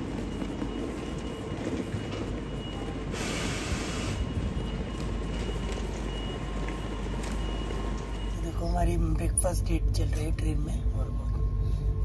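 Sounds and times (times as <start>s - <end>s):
electric trains rumbling and humming: 0.0s - 12.0s.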